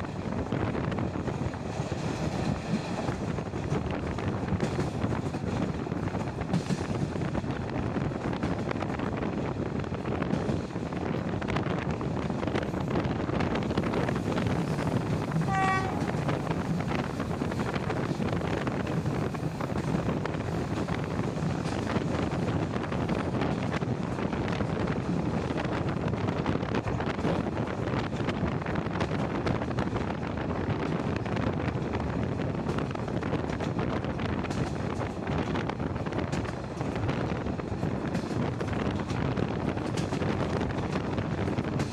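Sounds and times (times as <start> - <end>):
train wheels rumbling on track: 0.0 - 41.9
wind on microphone: 0.0 - 41.9.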